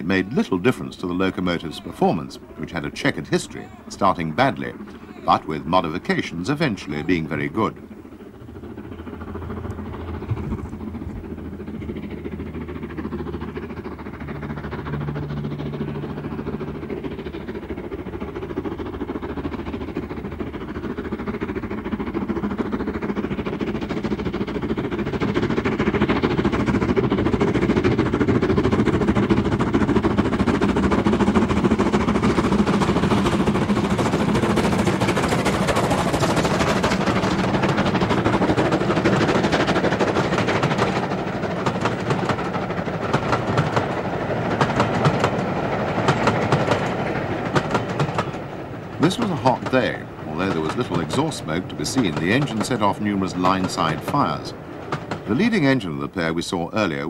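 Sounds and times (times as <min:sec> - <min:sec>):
steam locomotive exhaust beats: 0:00.0 - 0:57.0.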